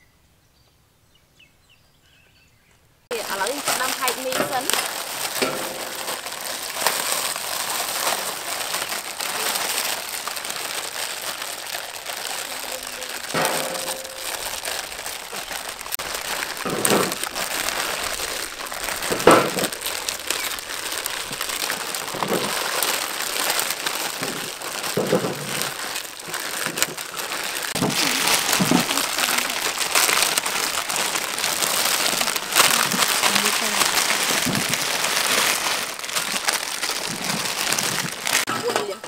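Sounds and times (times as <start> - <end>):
plastic packets crinkling: 3.1 - 39.0.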